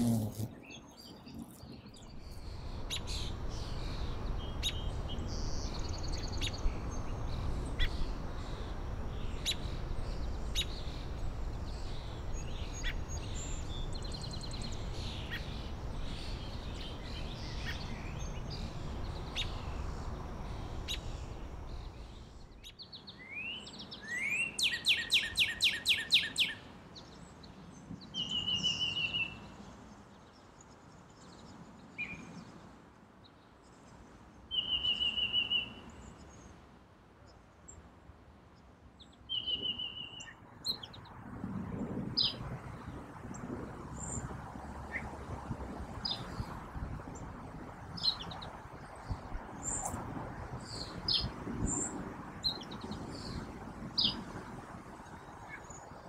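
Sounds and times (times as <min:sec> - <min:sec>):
songbirds singing and calling: 0:00.0 - 0:36.6, 0:38.6 - 0:56.0.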